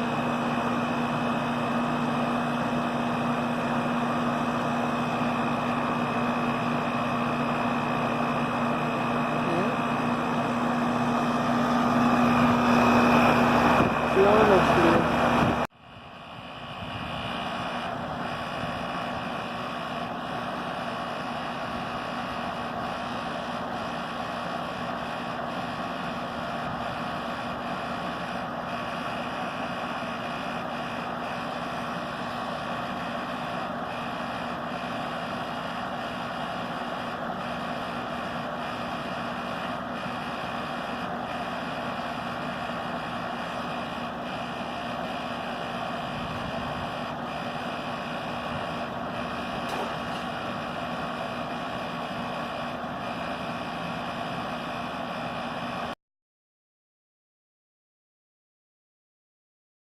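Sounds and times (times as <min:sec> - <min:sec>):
heat pump compressor and fan drone: 0:00.0 - 0:56.0.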